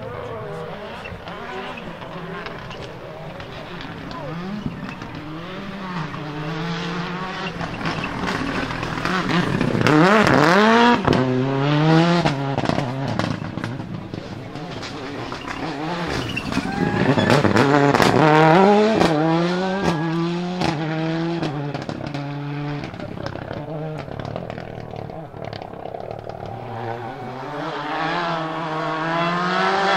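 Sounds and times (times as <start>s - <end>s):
rally car engine accelerating: 0.0s - 29.9s
exhaust pops and bangs: 0.5s - 29.6s.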